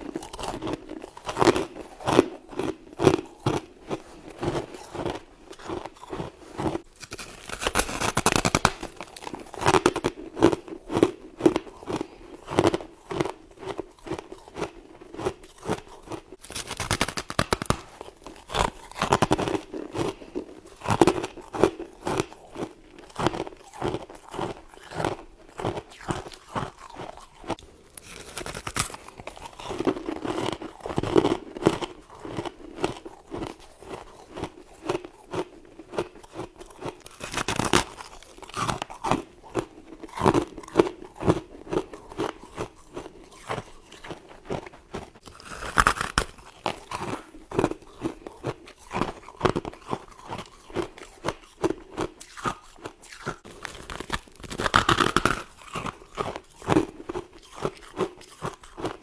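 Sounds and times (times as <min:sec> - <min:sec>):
person crunching frost: 0:00.0 - 0:59.0.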